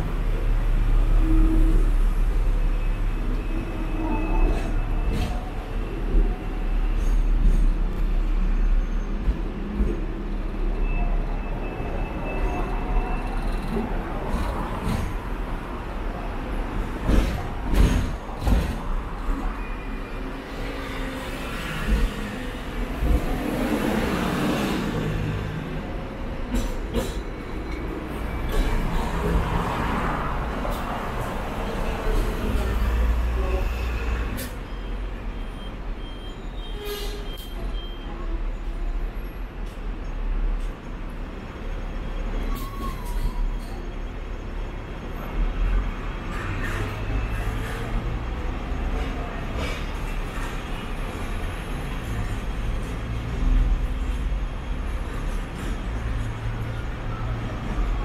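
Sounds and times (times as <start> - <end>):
traffic: 0.0 - 58.0
tram rumbling: 0.0 - 58.0.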